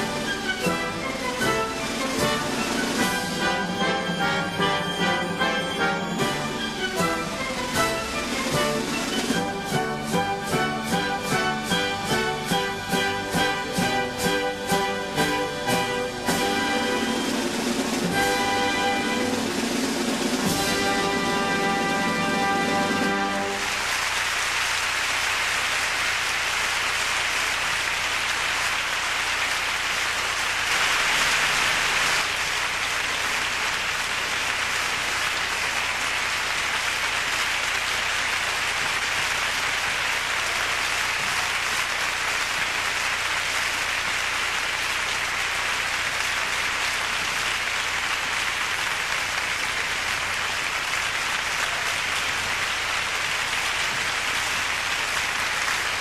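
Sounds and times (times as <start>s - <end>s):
audience applauding: 0.0s - 56.0s.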